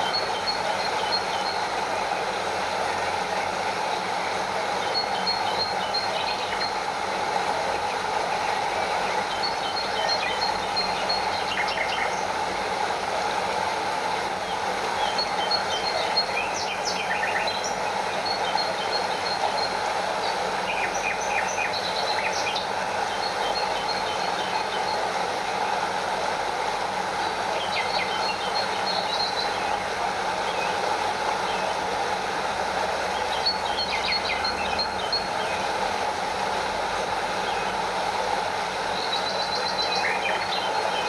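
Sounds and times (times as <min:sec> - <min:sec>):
distant small waterfall: 0:00.0 - 0:41.0
stream water rushing: 0:00.0 - 0:41.0.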